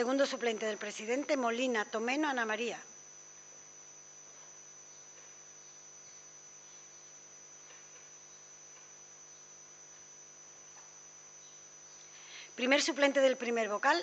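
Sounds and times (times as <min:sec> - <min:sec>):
mains hum: 0:00.0 - 0:14.0
thin high whine: 0:00.0 - 0:14.0.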